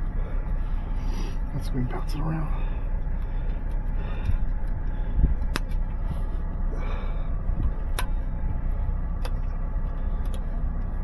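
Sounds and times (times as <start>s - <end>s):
vehicle rumbling over rough ground: 0.0s - 11.0s.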